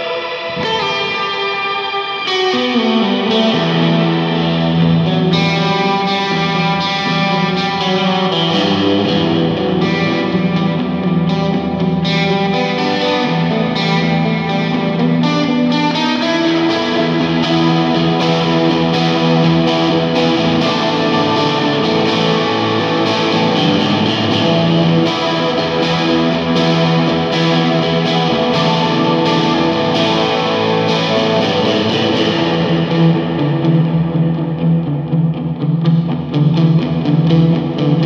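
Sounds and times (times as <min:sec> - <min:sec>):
electric guitar sustained notes: 0:00.0 - 0:38.0.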